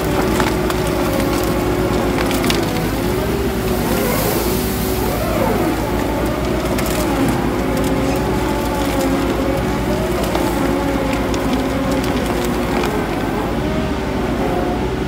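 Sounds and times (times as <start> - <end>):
faint woody cracks: 0.0 - 13.6
shredder engine drone: 0.0 - 15.0.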